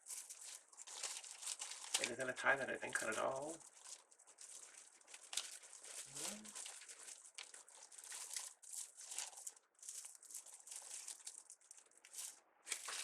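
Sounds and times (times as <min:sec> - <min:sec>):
mesh and ribbon crinkling: 0:00.0 - 0:13.0.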